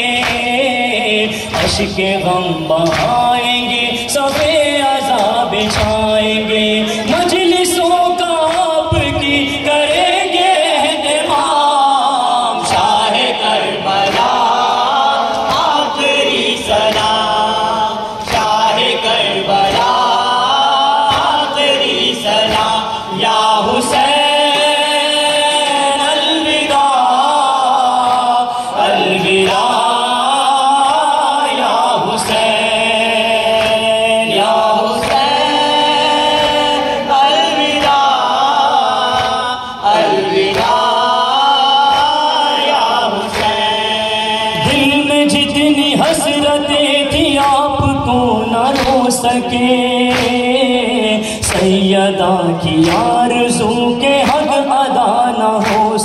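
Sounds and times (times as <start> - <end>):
men singing lament in unison: 0.0 - 56.0.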